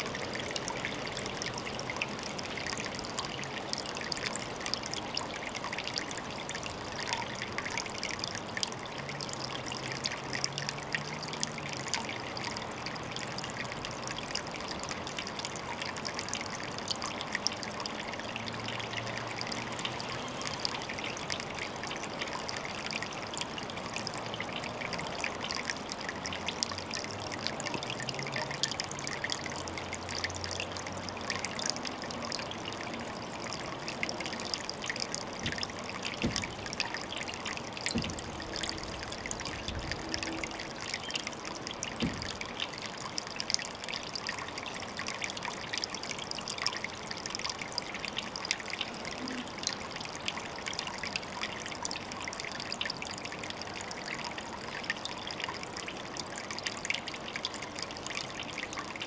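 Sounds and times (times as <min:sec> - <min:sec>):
water trickling into a pond: 0:00.0 - 0:59.0.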